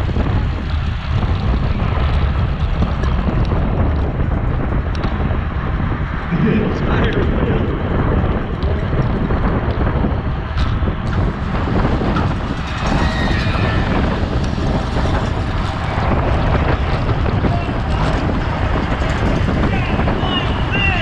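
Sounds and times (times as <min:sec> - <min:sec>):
wind rushing on microphone: 0:00.0 - 0:21.0.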